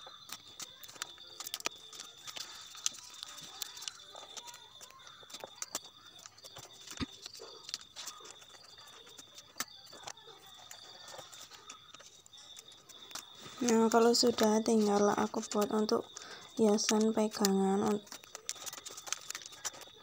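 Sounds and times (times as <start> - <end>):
small clicks and crackles: 0.0 - 20.0
wrapping paper rustling: 0.0 - 20.0.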